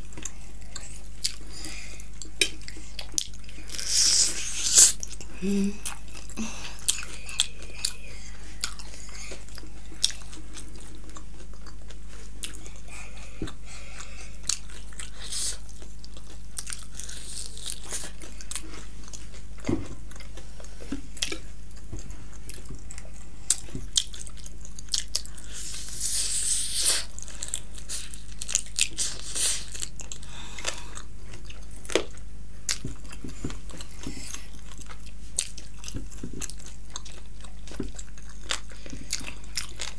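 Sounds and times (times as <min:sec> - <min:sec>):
crunchy chewing and biting: 0:00.0 - 0:39.9.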